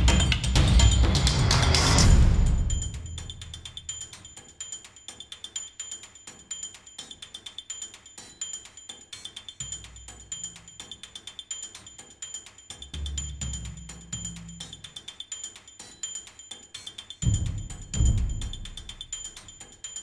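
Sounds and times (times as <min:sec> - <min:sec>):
ticking percussion: 0:00.0 - 0:20.0.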